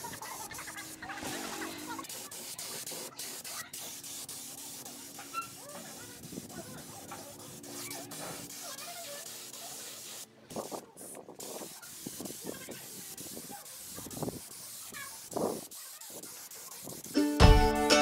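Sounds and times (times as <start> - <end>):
spray gun hissing: 0.0 - 17.8.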